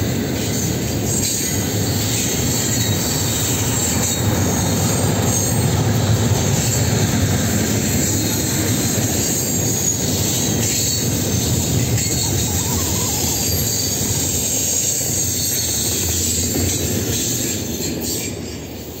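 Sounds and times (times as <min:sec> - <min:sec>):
train wheels rumbling on rails: 0:00.0 - 0:19.0
high wheel squeal: 0:00.3 - 0:19.0.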